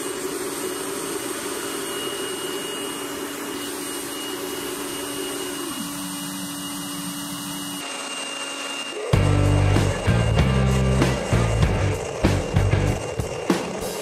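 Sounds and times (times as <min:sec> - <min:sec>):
furnace burner rushing hum: 0:00.0 - 0:14.0.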